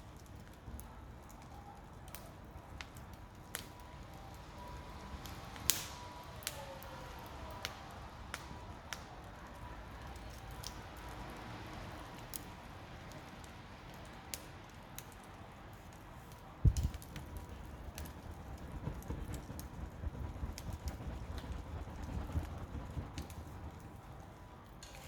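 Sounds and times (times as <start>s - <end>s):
wood campfire crackling: 0.0s - 25.0s.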